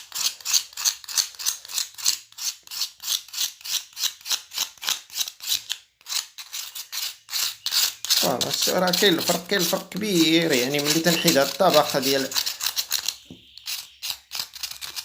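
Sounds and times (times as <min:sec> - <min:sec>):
cuttlefish bone being scraped: 0:00.0 - 0:15.0.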